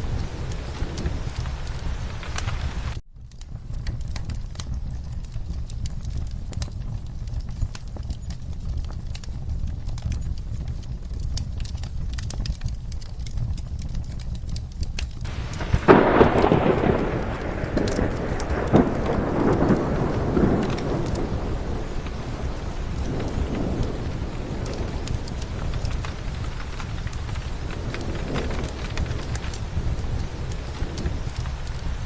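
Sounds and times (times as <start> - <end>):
steady rain: 0.0 - 32.0
thunderclap rolling: 0.0 - 32.0.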